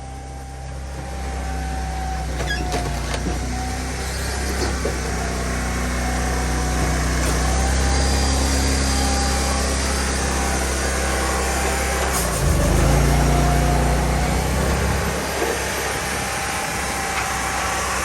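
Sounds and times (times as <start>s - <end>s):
firewood processor engine droning: 0.0s - 18.0s.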